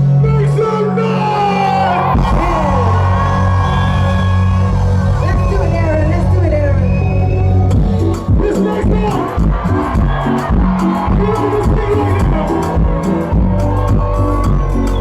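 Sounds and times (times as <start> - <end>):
crowd noise: 0.0 - 15.0
live afrobeats music: 1.3 - 5.8, 7.1 - 15.0.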